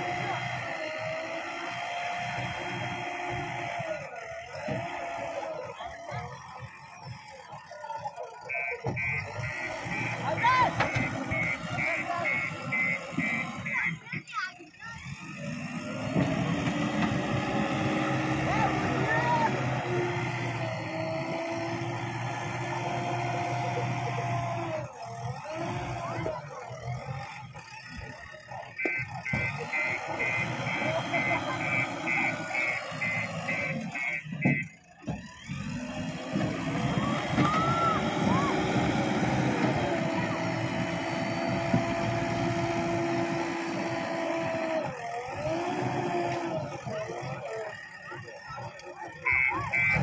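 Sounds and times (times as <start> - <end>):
diesel engine running under load: 0.0 - 50.0.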